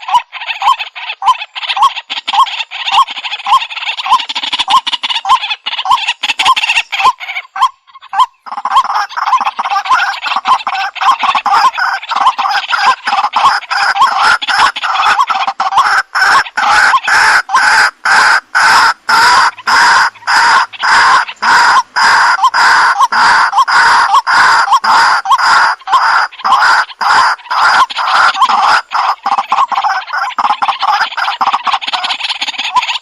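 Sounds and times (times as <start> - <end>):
waterhen calling harshly: 0.0 - 33.0.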